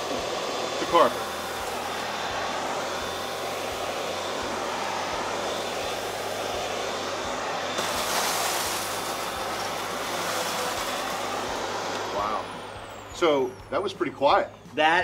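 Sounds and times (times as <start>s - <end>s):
upright vacuum cleaner running: 0.0s - 14.8s.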